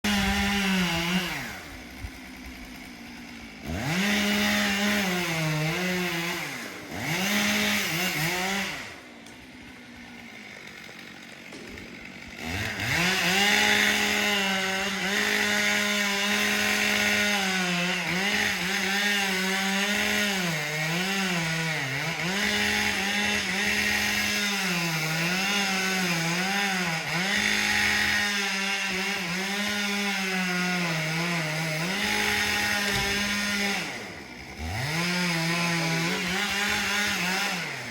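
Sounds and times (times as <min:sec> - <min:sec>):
chainsaw cutting wood: 0:00.0 - 0:37.9
chainsaw idling: 0:00.0 - 0:37.9.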